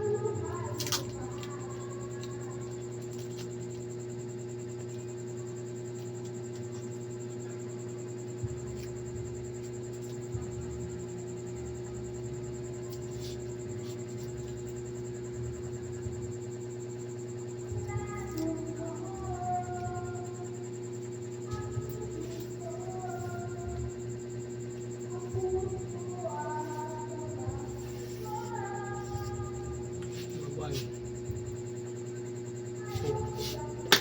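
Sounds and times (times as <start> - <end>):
fan motor humming: 0.0 - 34.0.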